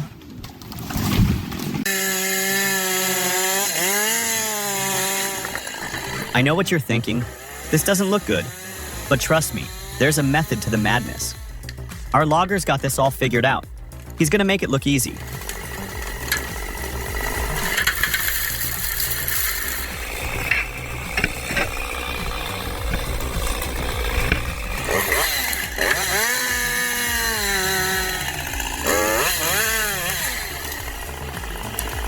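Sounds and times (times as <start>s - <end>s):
chainsaw running and revving: 1.9s - 32.0s.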